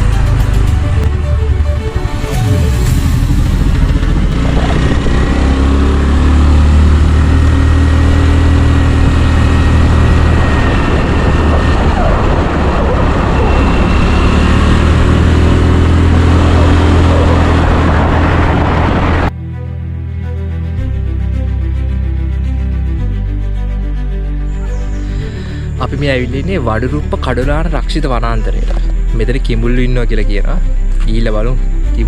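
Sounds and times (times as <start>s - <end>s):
road vehicle rumbling: 0.0s - 32.0s.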